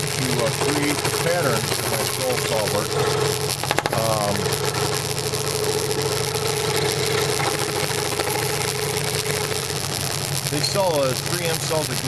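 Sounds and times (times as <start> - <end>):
scroll saw running: 0.0 - 12.0.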